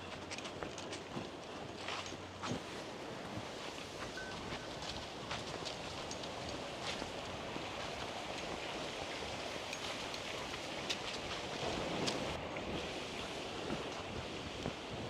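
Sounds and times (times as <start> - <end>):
wind rushing on microphone: 2.4 - 15.0.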